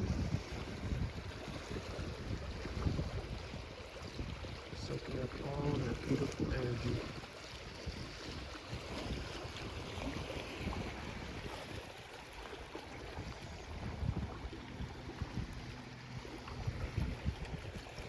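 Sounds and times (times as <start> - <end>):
calm waves washing: 0.0 - 18.0
wind buffeting microphone: 0.0 - 18.0.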